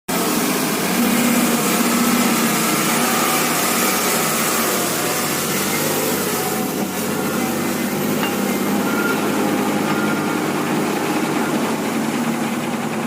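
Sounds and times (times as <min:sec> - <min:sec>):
small motor whining: 0:00.2 - 0:13.0.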